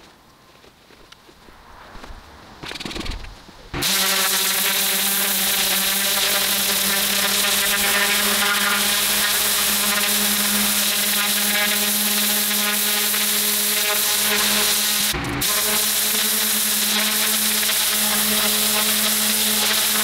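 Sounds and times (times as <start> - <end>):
pressure washer hum: 2.0 - 20.0
water jet hissing on paving: 3.7 - 20.0.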